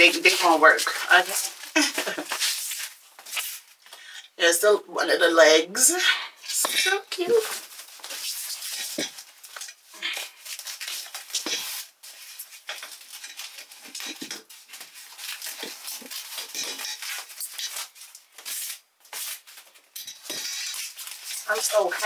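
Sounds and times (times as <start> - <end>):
packing wrap crinkling: 0.0 - 4.0, 7.2 - 22.0.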